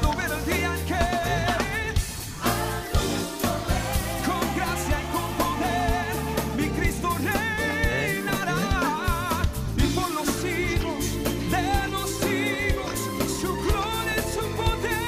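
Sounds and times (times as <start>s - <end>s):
pop music with singer and band: 0.0s - 15.0s.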